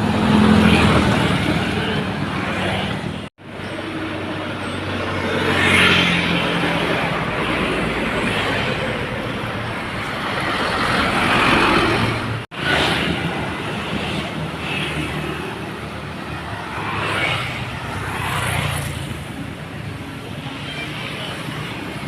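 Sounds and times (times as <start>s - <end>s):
dump trucks passing: 0.0s - 22.0s.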